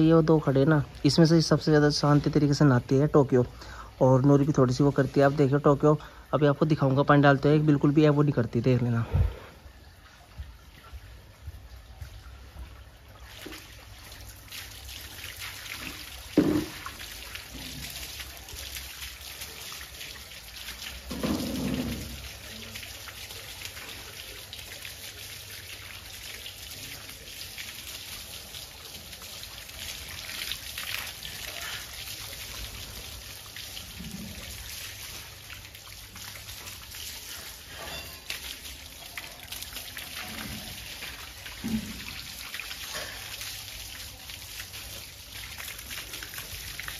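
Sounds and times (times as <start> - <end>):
hose water spraying and splashing: 8.7 - 46.9.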